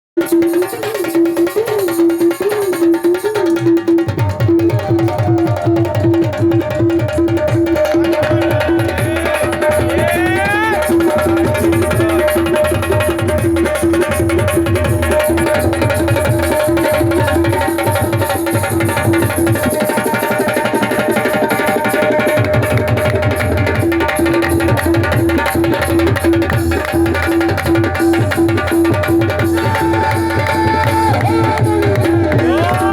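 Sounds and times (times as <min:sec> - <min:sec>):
tabla drumming: 0:00.2 - 0:32.9.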